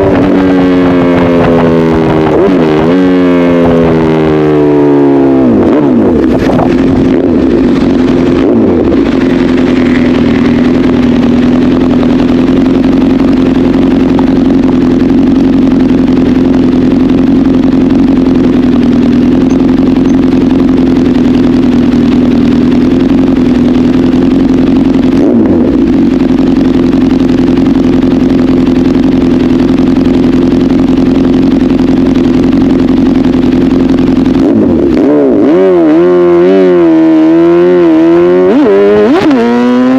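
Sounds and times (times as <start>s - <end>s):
motorcycle engine running loud: 0.0s - 39.9s.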